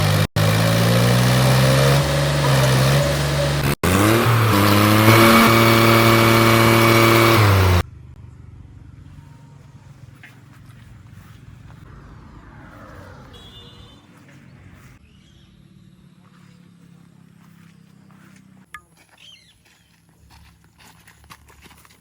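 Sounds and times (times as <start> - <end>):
heavy vehicle engine revving: 0.0 - 18.7.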